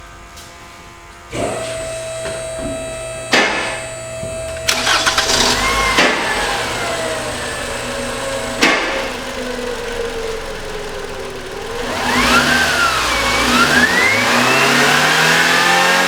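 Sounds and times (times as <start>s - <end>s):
car engine starting and running: 1.3s - 16.0s
engine revving burst: 1.3s - 16.0s.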